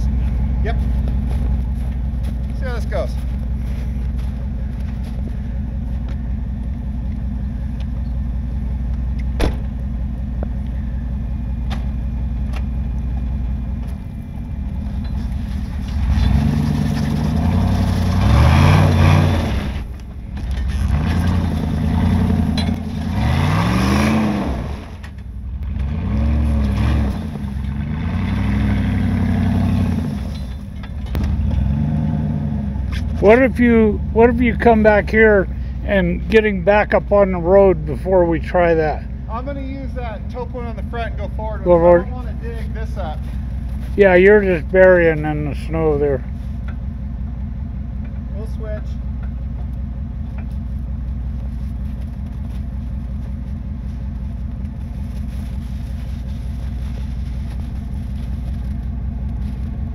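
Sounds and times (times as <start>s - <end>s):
vehicle engine idling and revving: 0.0s - 59.9s.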